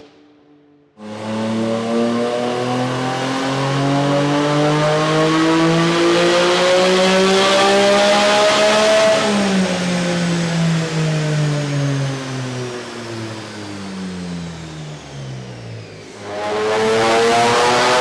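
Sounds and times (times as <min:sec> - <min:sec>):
car engine accelerating: 0:01.0 - 0:18.0.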